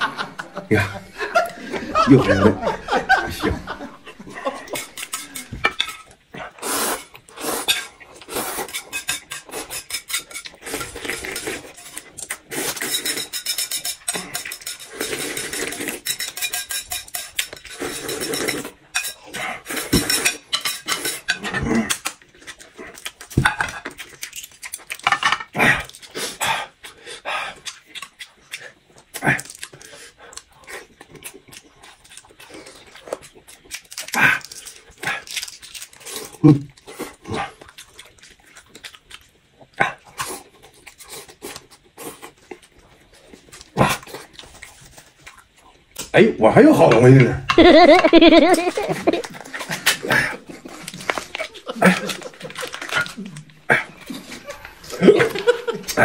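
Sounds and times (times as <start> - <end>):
chewing: 4.5 - 46.1, 48.6 - 56.0.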